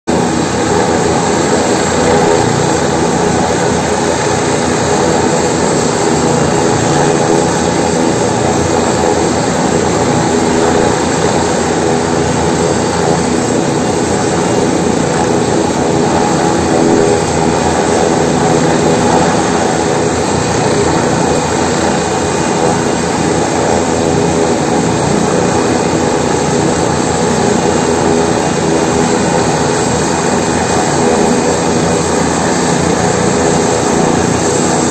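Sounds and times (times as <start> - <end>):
helicopter engine whine: 0.1 - 34.9
helicopter rotor turning: 0.1 - 34.9.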